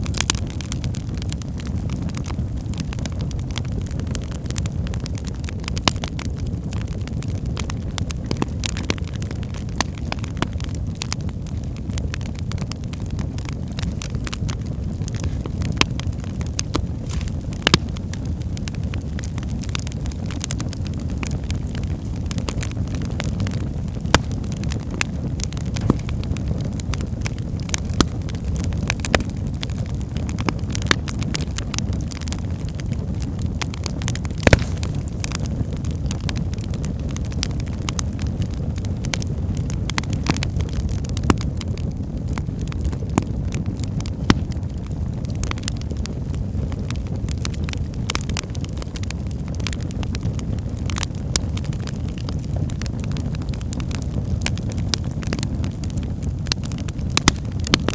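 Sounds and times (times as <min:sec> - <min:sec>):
logs crackling and popping: 0:00.0 - 0:57.9
wood fire rumbling: 0:00.0 - 0:57.9.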